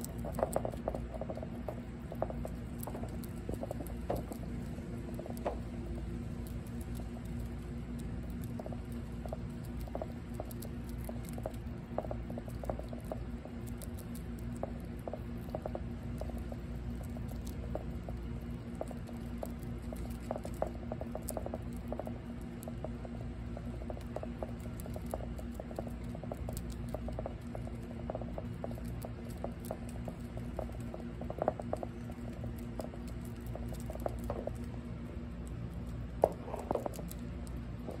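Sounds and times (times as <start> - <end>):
squirrels chewing leaves: 0.0 - 38.0
steady low hum: 0.0 - 38.0.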